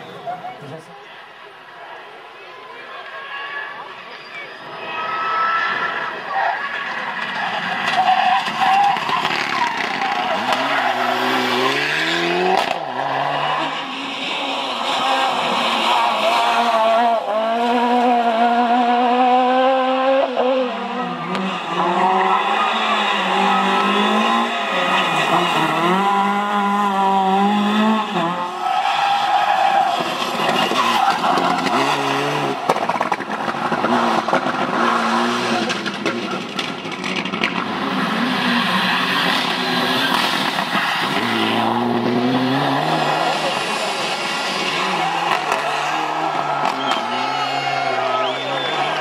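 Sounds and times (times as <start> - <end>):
rally car engines revving: 4.2 - 49.0.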